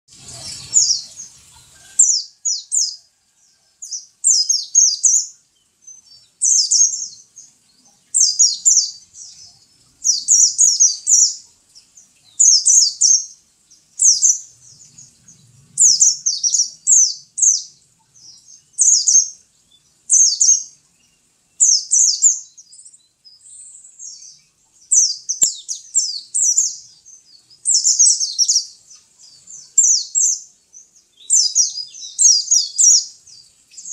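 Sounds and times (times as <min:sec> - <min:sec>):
bird singing high chirps: 0:00.2 - 0:03.1, 0:03.8 - 0:33.9.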